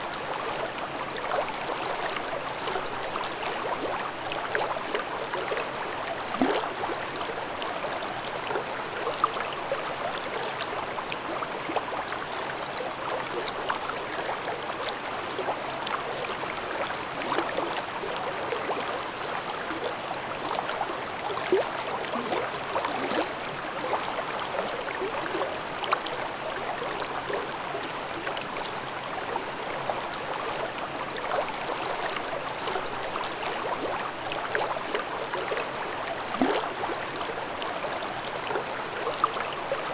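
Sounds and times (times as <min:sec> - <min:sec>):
stream babbling: 0:00.1 - 0:39.9.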